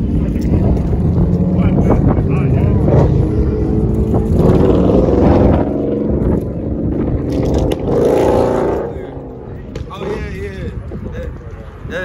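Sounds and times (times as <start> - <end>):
car engine running: 0.0 - 9.9
wind rumbling on microphone: 0.0 - 12.0.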